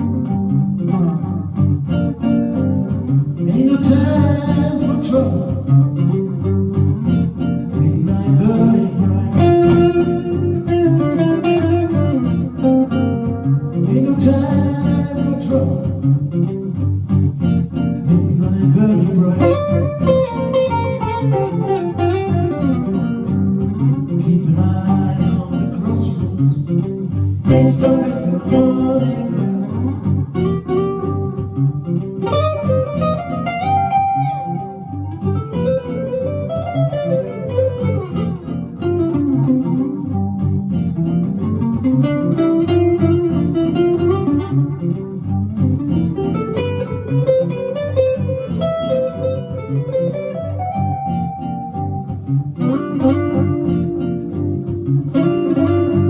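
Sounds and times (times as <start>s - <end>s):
electric guitar playing blues: 0.0s - 56.0s.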